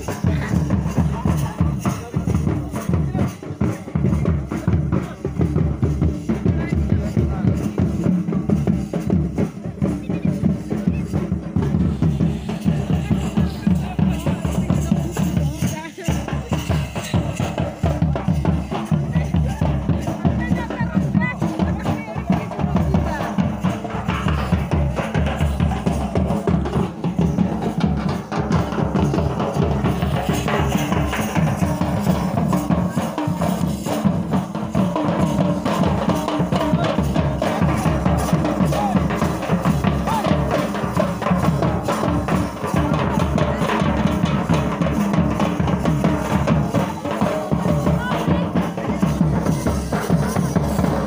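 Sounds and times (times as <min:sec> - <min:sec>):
large drums beaten in rhythm: 0:00.0 - 0:51.0.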